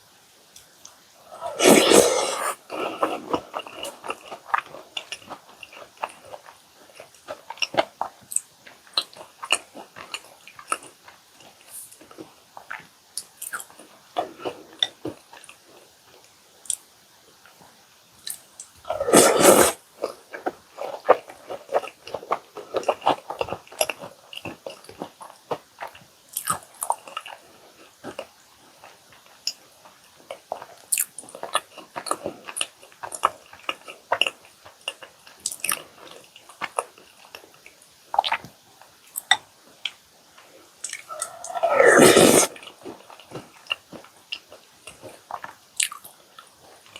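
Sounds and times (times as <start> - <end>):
chewing and biting cookies: 0.6 - 46.9.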